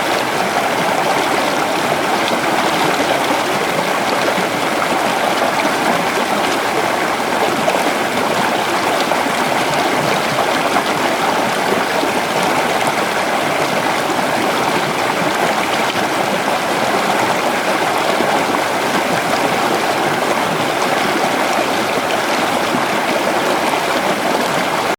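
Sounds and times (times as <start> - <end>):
river water flowing over rocks: 0.0 - 24.9.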